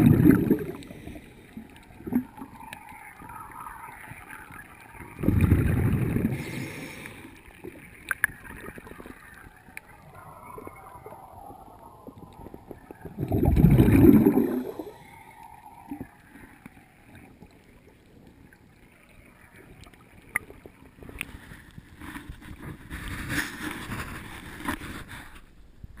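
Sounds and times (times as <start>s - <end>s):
water splashing: 0.0s - 24.8s
muffled water sloshing and gurgling: 0.0s - 26.0s.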